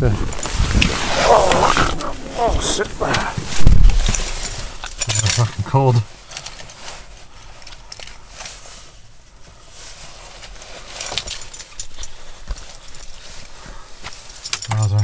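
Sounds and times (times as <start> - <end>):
rustling in car cabin: 0.0 - 15.0.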